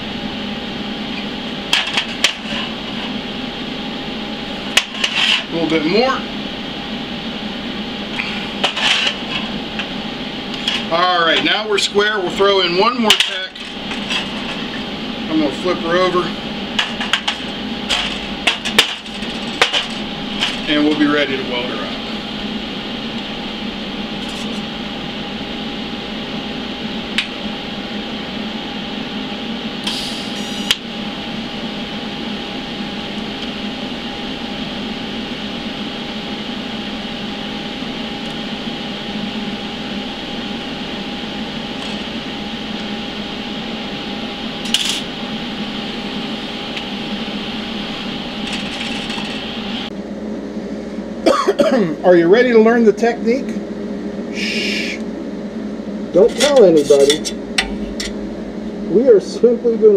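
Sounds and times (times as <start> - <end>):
welding arc buzzing hiss: 0.0 - 50.0, 54.3 - 55.1, 56.1 - 59.2
faint steady hum: 0.0 - 59.9.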